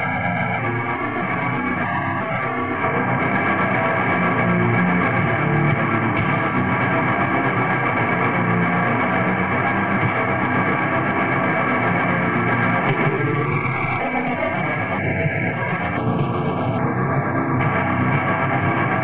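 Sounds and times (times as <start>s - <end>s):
black metal music: 0.0s - 19.0s.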